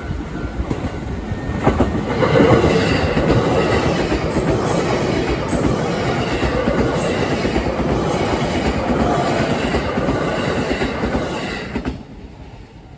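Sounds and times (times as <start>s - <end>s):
train wheels clacking over rail joints: 1.6s - 12.0s.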